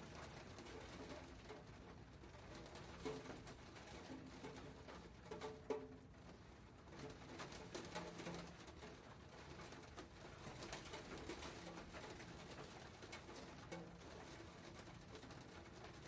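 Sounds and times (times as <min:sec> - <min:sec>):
raindrops pattering: 0:00.0 - 0:16.0.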